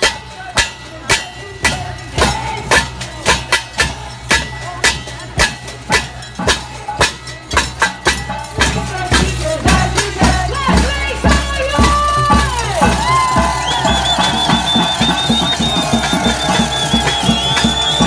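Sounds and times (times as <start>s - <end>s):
drums beating rhythmically: 0.0s - 18.0s.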